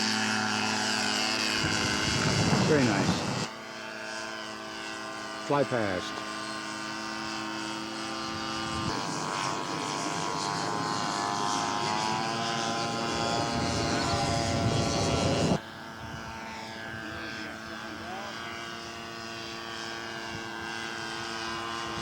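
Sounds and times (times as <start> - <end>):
model airplane engine and propeller: 0.0 - 22.0.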